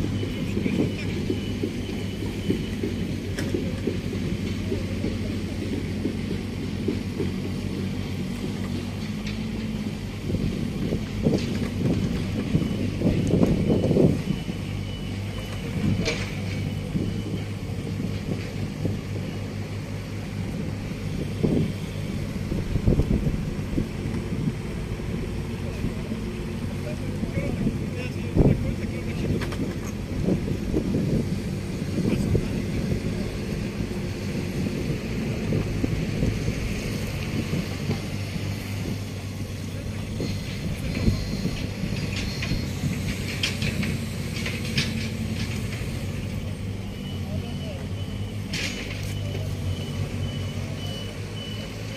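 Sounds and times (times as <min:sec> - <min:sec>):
excavator diesel engines running: 0:00.0 - 0:51.9.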